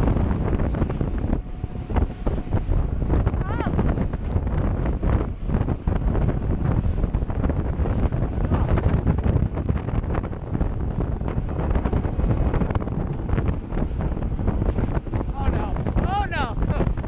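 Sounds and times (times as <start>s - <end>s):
boat low rumble: 0.0s - 17.0s
wind buffeting microphone: 0.0s - 17.0s.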